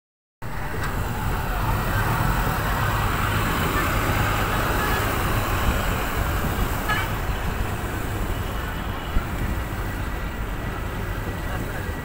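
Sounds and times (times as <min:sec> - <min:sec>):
diesel engines running: 0:00.4 - 0:12.0.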